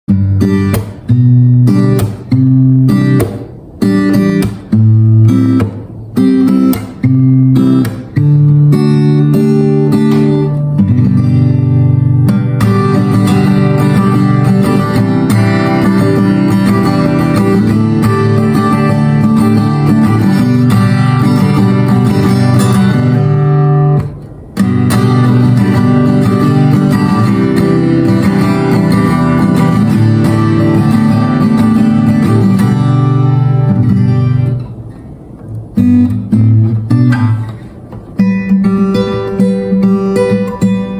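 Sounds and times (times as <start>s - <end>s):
acoustic guitar strumming: 0.1s - 40.9s.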